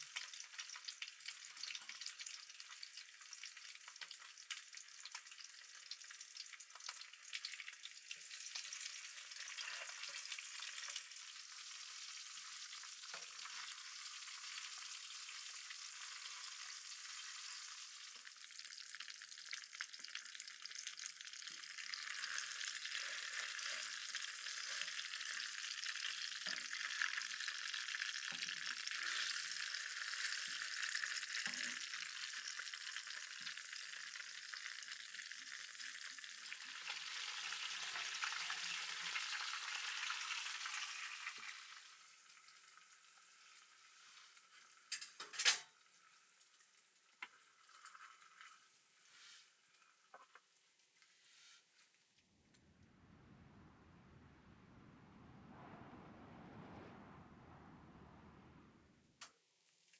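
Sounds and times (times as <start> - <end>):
food sizzling and crackling: 0.0 - 52.4.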